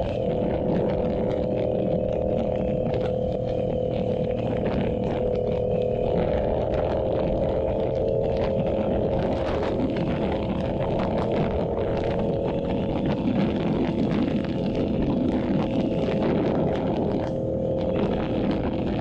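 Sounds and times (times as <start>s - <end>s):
motorcycle engine riding: 0.0s - 19.0s.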